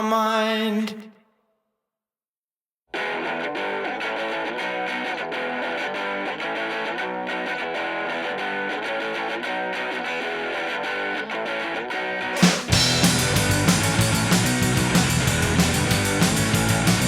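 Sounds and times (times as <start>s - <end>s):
distorted electric guitar melody: 3.0s - 17.0s
rock band playing: 3.0s - 17.0s.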